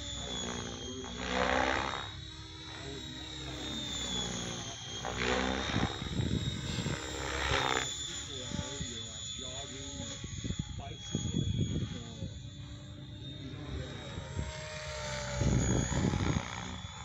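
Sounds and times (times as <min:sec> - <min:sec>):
electric motor whine: 0:00.0 - 0:17.0
helicopter rotor blades whooshing: 0:00.0 - 0:17.0.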